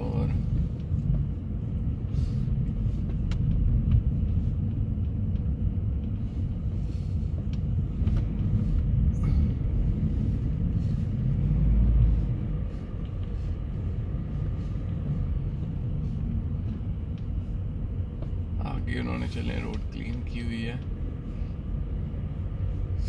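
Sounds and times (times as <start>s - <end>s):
car driving on snowy road: 0.0s - 23.0s.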